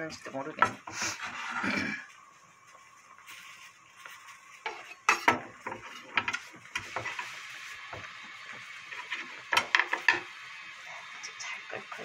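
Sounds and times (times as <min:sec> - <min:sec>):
soup boiling hiss: 0:00.0 - 0:12.0.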